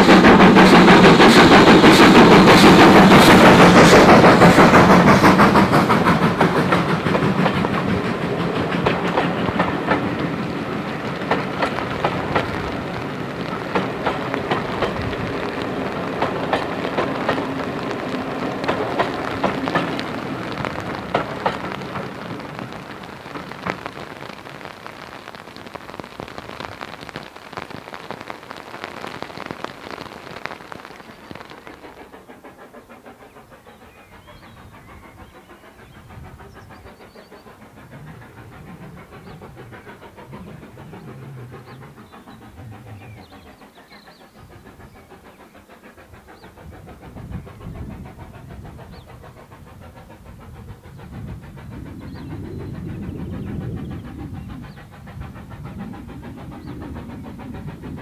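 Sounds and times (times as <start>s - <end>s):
steady rain hiss: 0.0s - 53.3s.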